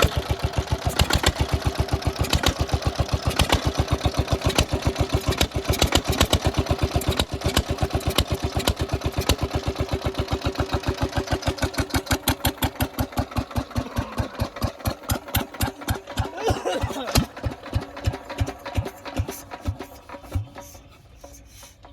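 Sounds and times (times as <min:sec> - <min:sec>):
engine exhaust pulsing: 0:00.0 - 0:21.9.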